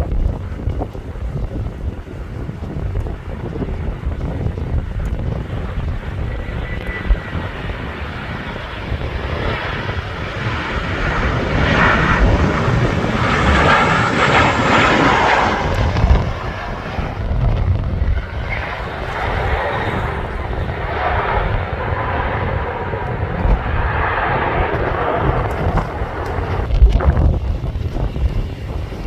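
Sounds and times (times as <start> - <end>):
jet airliner passing overhead: 0.0 - 29.0
wind rumble on microphone: 0.0 - 29.0.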